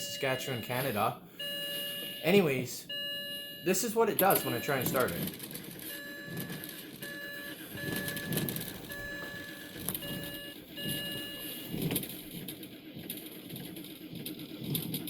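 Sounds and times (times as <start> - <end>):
car warning chimes beeping: 0.0 - 12.2.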